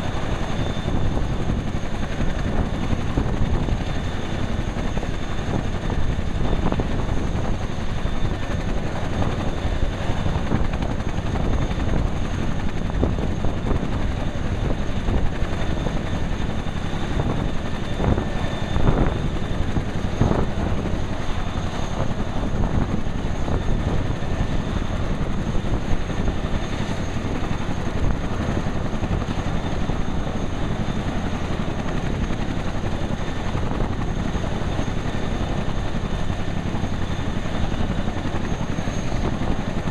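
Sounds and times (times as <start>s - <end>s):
helicopter engines and rotors running: 0.0s - 39.9s.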